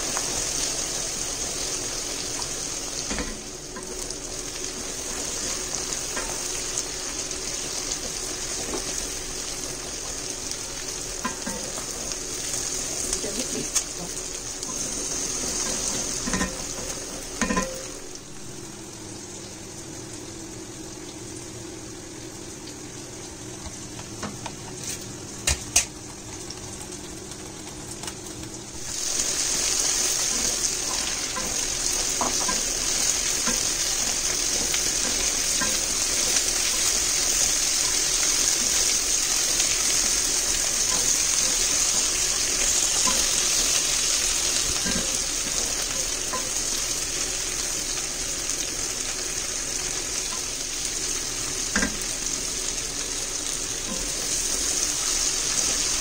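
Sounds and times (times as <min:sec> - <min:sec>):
onions sizzling in a pot: 0:00.0 - 0:56.0.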